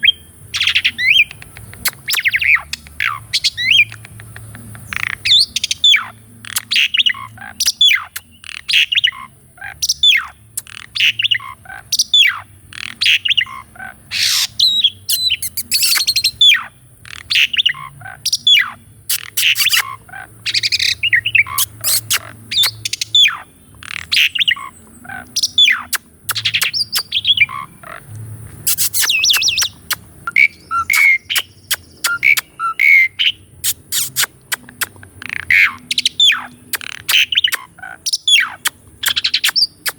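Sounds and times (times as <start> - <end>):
starling singing: 0.0 - 28.0, 28.6 - 39.9.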